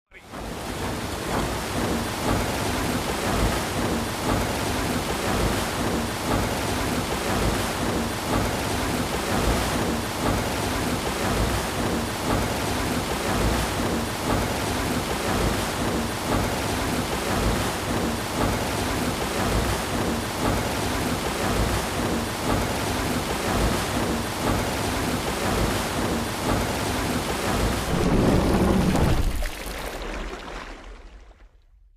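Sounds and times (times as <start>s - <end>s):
water splashing from mill wheel: 0.2s - 31.3s.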